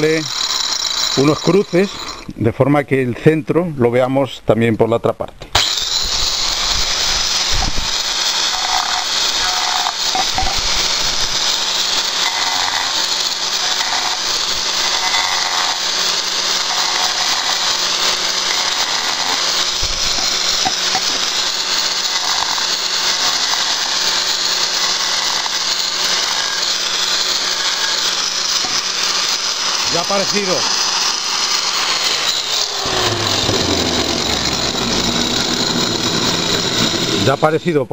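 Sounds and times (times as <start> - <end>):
disc grinding into tile: 0.0 - 2.3, 5.6 - 37.6
angle grinder whine: 0.0 - 2.4, 5.5 - 37.9.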